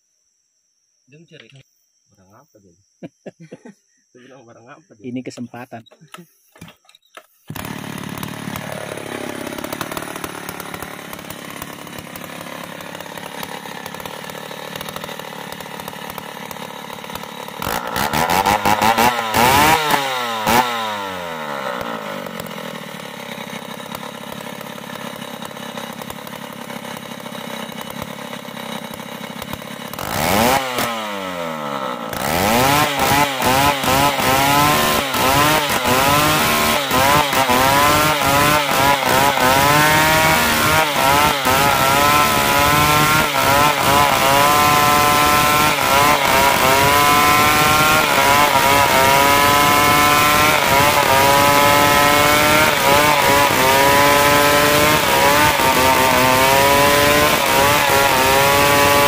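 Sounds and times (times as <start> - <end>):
chainsaw ripping into wood: 6.6 - 59.0
chainsaw idling and revving: 7.5 - 59.0.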